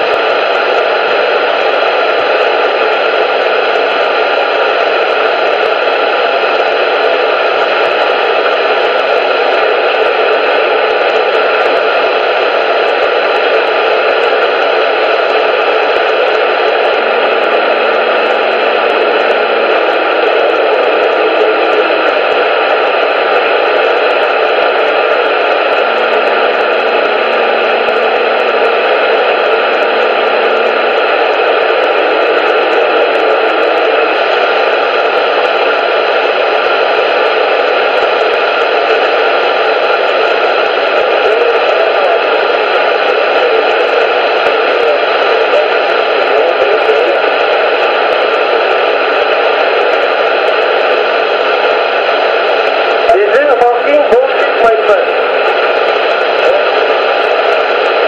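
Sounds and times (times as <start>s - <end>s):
static hiss: 0.0s - 58.0s.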